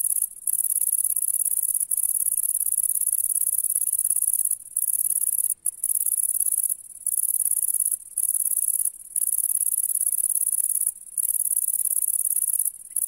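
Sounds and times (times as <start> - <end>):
bush-cricket high-pitched buzzing: 0.0 - 13.0.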